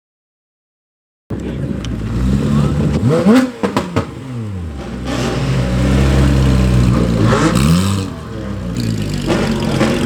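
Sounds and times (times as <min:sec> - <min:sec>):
car engine revving: 0:01.4 - 0:10.0.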